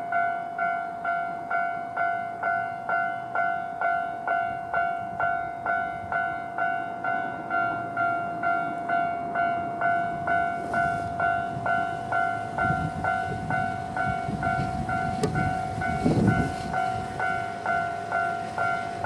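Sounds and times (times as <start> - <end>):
level crossing warning bell: 0.0 - 19.0
train rumbling: 0.0 - 19.0.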